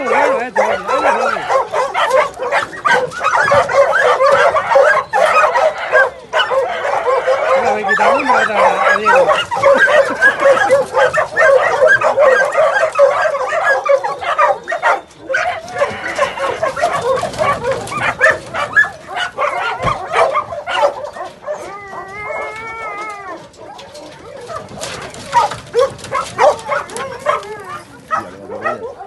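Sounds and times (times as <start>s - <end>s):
dog howling: 0.0s - 29.0s
dogs barking and yelping: 0.0s - 29.0s.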